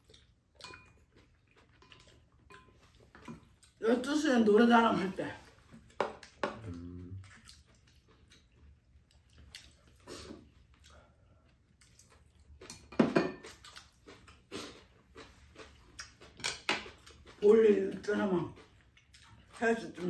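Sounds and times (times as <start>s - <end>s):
chewing: 0.0s - 3.8s, 5.4s - 20.0s.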